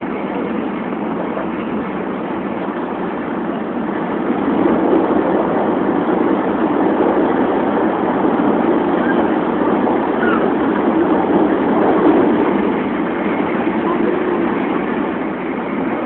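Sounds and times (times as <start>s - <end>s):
train running noise inside cabin: 0.0s - 16.0s.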